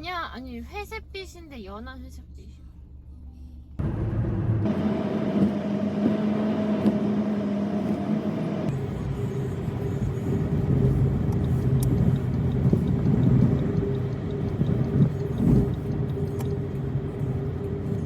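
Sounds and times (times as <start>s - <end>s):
car engine and road noise: 2.2s - 18.0s.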